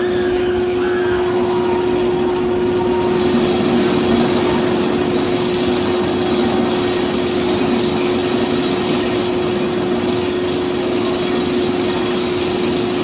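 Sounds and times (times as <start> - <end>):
roller coaster lift mechanism hum: 0.0 - 13.0.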